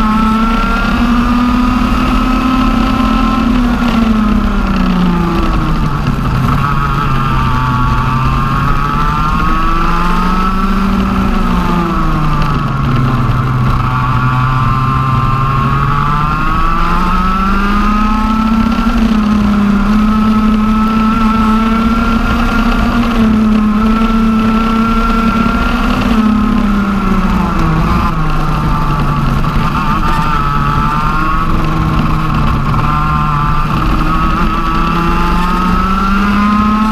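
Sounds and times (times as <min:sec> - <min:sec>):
two-stroke kart engine revving: 0:00.0 - 0:36.9.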